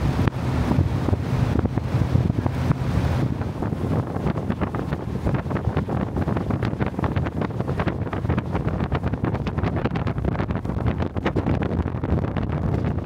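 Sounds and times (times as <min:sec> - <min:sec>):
boat engine drone: 0:00.0 - 0:13.0
wind buffeting microphone: 0:00.0 - 0:13.0.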